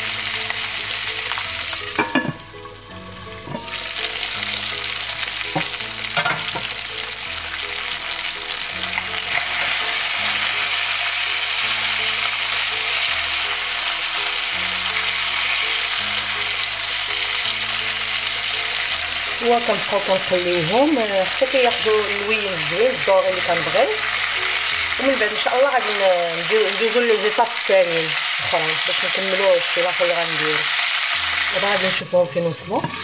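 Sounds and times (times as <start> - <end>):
chicken wings sizzling in oil: 0.0 - 33.0.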